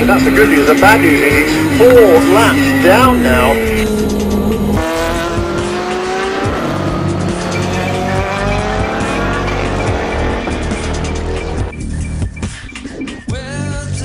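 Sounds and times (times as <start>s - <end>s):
race car engines accelerating: 0.0s - 12.2s
electronic dance music: 0.0s - 13.5s.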